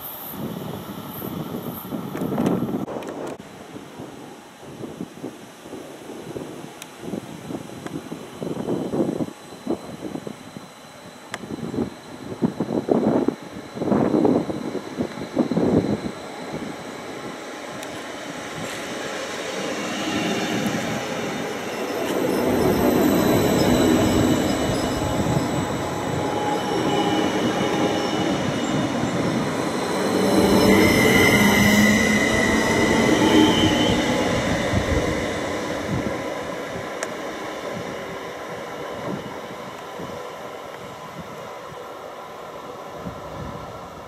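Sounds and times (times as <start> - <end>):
train wheel and running noise: 0.0 - 5.0, 5.7 - 44.0.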